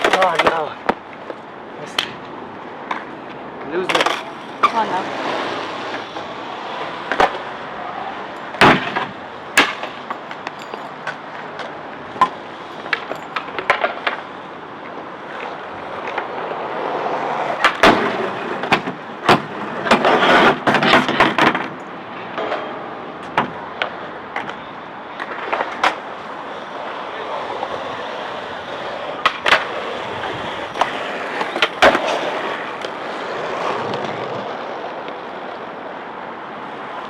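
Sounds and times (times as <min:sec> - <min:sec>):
skateboard clacking down: 0:00.0 - 0:01.4, 0:02.0 - 0:26.2, 0:26.8 - 0:35.7
skateboard grinding: 0:00.0 - 0:35.7
skateboard rolling on hard ground: 0:00.0 - 0:37.0.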